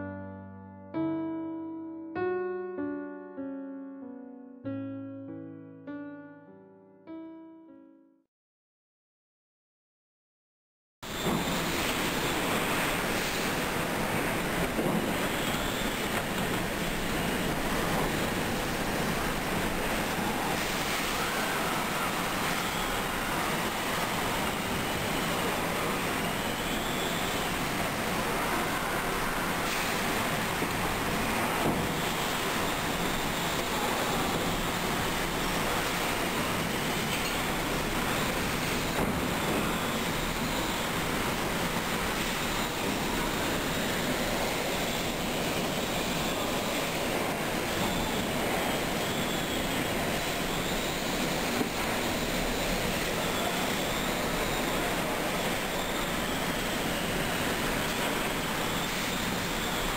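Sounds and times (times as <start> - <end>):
driving rain: 11.1 - 59.9
typhoon winds: 11.1 - 59.9.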